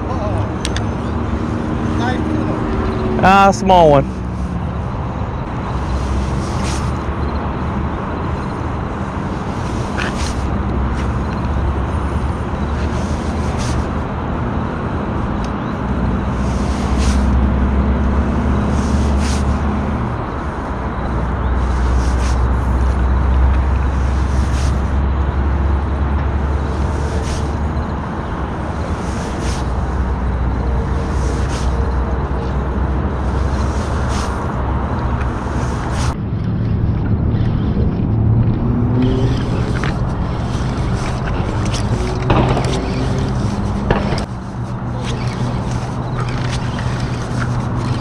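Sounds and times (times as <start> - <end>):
engine drone: 0.0 - 48.0.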